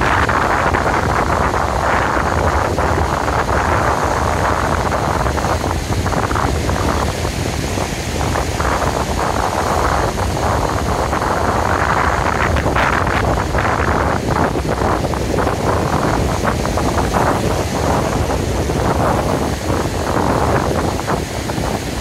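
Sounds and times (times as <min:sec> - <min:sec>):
surf breaking on shore: 0:00.0 - 0:22.0
wind buffeting microphone: 0:00.0 - 0:22.0.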